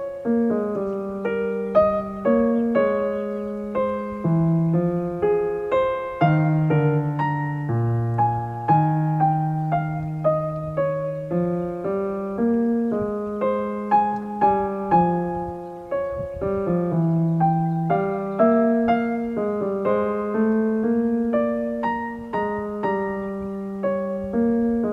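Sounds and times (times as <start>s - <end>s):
soft piano music: 0.0s - 24.9s.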